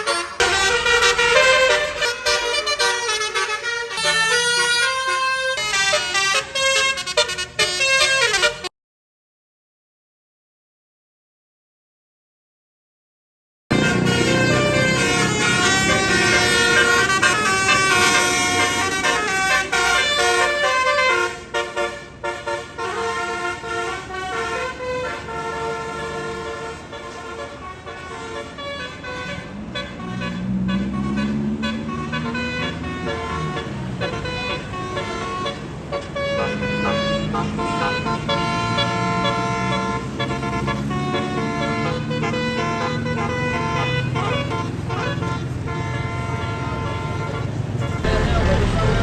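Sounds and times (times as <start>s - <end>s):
bus engine passing: 0.0s - 8.7s, 13.7s - 49.0s
musical air horns: 0.0s - 8.7s, 13.7s - 49.0s.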